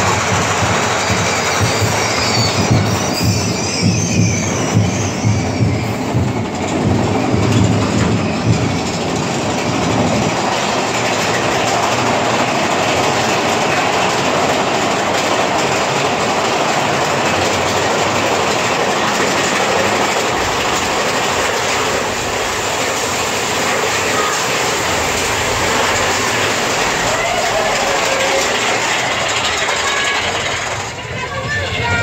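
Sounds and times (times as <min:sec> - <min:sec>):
roller coaster clattering rumble: 0:00.0 - 0:32.0.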